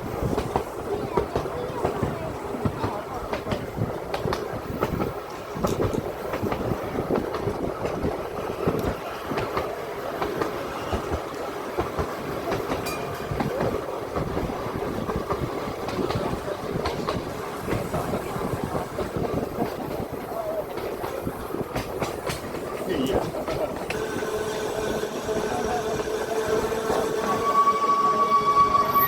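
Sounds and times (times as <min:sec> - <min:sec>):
tram wheels rumbling on rail: 0:00.0 - 0:29.0
rail joint clicks and knocks: 0:00.1 - 0:27.3.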